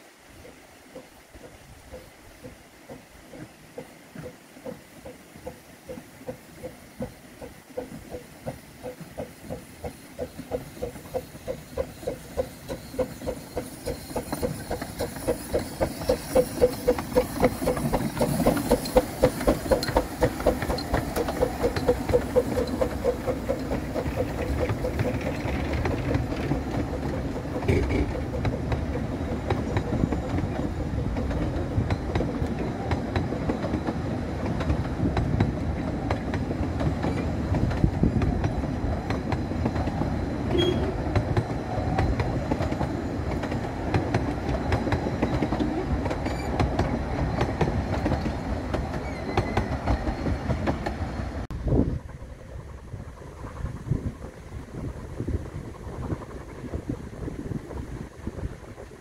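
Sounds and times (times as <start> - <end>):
steam locomotive chuffing: 0.4 - 59.0
carriage wheels clattering on rails: 1.4 - 51.0.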